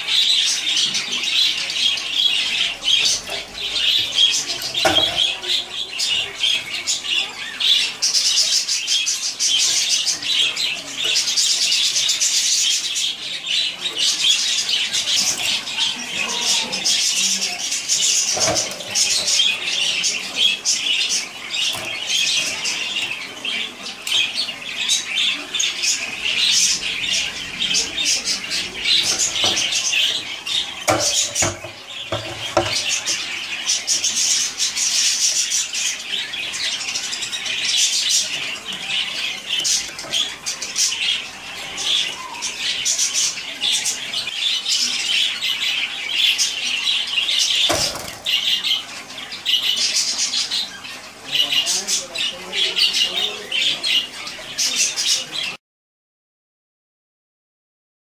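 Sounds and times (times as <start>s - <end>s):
canaries chirping and trilling: 0.0s - 55.6s.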